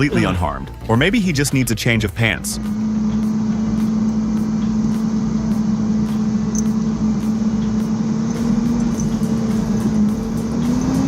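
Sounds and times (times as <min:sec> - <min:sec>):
heavy machine engine running: 0:02.1 - 0:11.0.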